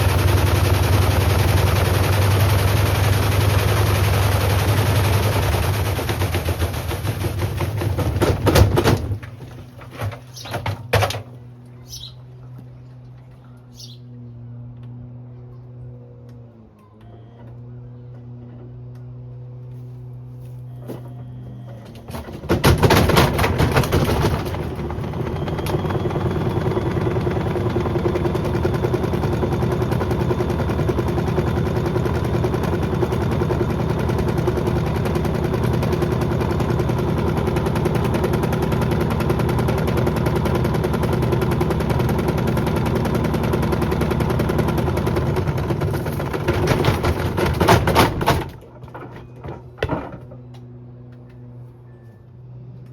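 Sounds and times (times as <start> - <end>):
washing machine motor hum: 0.0 - 52.8.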